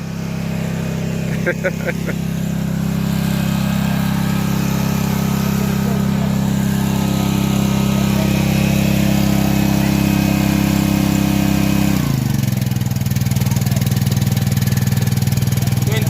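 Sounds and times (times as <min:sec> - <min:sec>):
generator engine hum: 0:00.0 - 0:16.0.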